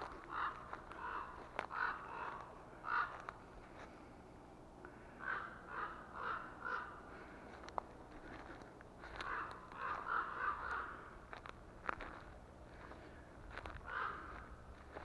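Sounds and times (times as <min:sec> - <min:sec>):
crows cawing: 0:00.0 - 0:04.0, 0:04.8 - 0:15.0.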